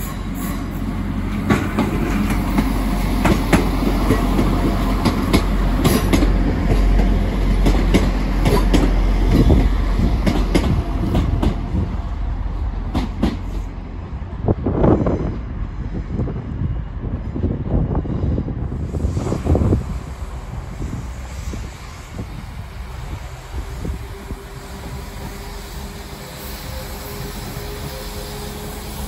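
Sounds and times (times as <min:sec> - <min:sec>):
diesel train rumbling past: 0:00.0 - 0:29.0.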